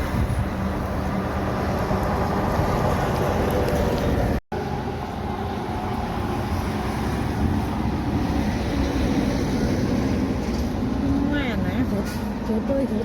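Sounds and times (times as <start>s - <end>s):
heavy truck engine rumble: 0.0s - 13.0s.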